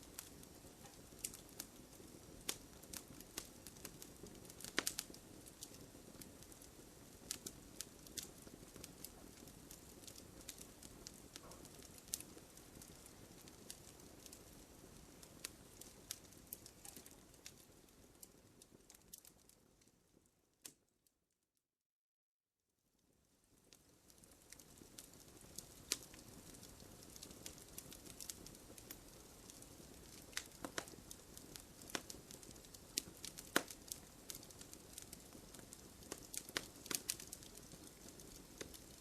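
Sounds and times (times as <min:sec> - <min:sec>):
bonfire crackling and popping: 0:00.0 - 0:20.8, 0:23.4 - 0:39.0.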